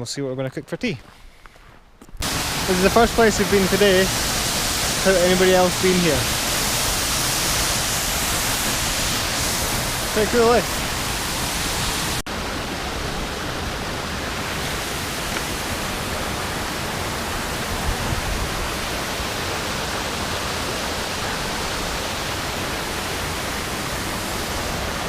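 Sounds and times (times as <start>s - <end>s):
running water rushing: 2.2s - 25.0s.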